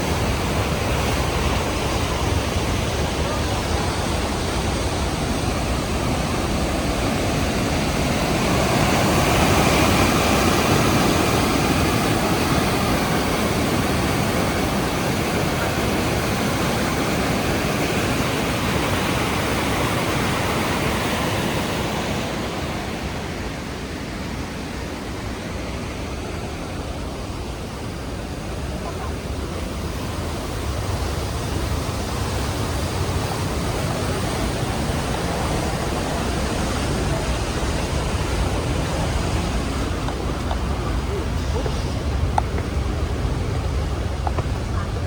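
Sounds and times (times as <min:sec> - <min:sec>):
waterfall thundering: 0:00.0 - 0:45.0.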